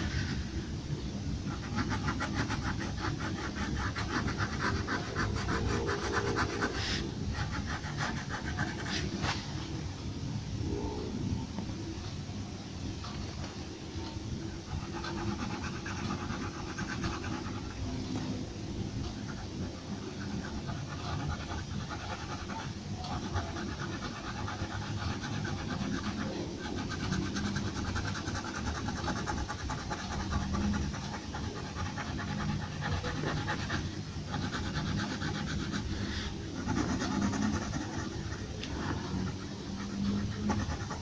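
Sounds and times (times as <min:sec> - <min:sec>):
low room rumble: 0:00.0 - 0:41.0
pencil scratching on paper: 0:01.4 - 0:09.6, 0:14.6 - 0:18.4, 0:19.0 - 0:41.0.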